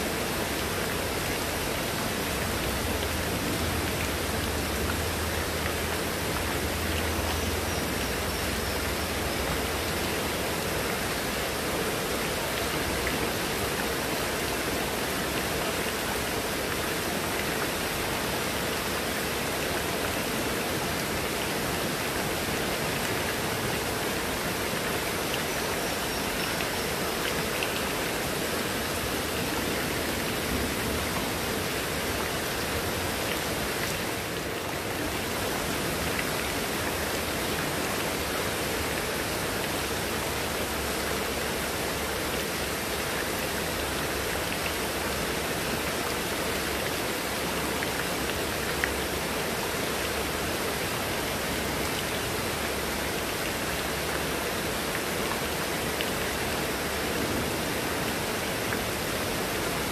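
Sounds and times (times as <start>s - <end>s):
rain on leaves and hard surfaces: 0.0s - 59.9s.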